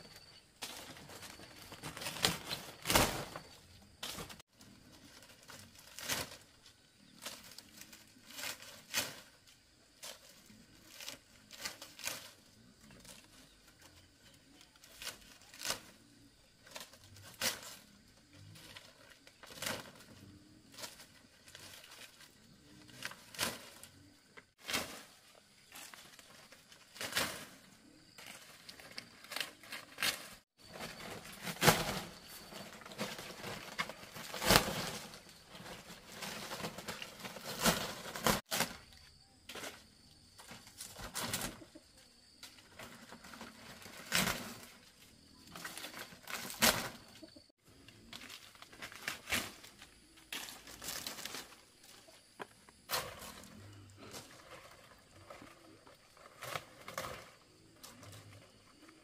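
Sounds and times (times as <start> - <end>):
palm fronds rustling: 0.0 - 59.0.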